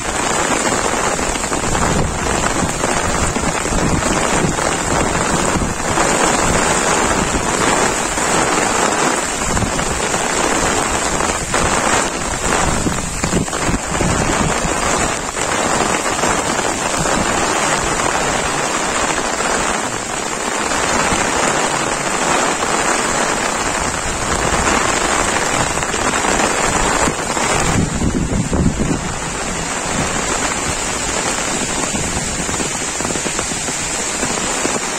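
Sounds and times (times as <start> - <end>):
heavy rain hissing: 0.0 - 34.9
wind rumble on microphone: 0.0 - 34.9.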